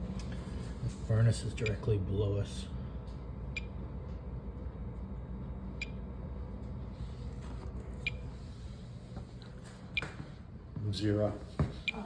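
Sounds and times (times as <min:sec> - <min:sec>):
oil furnace humming: 0:00.0 - 0:12.0.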